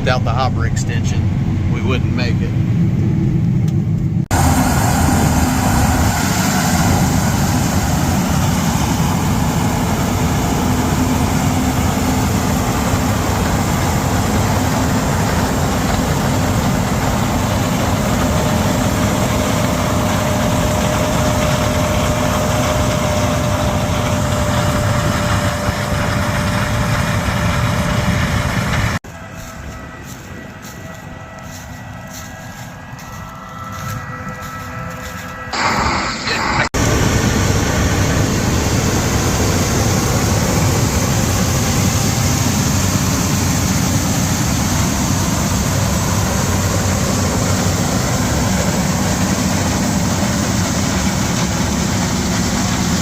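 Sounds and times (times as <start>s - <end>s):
combine harvester drone: 0.0s - 53.0s.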